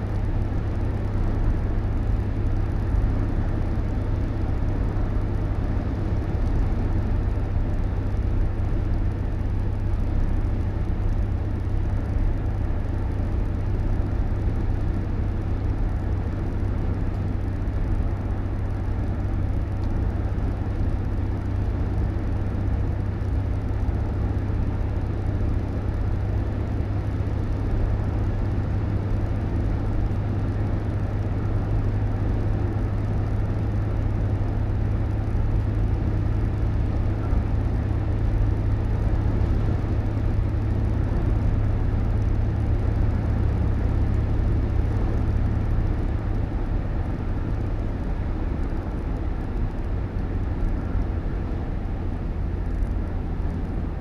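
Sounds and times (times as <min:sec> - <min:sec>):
moving vehicle engine rumble: 0:00.0 - 0:54.0
road noise: 0:00.0 - 0:54.0.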